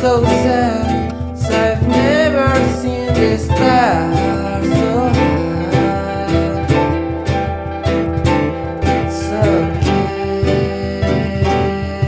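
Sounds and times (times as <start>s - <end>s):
person singing: 0.0s - 12.0s
strummed acoustic guitar: 0.0s - 12.0s.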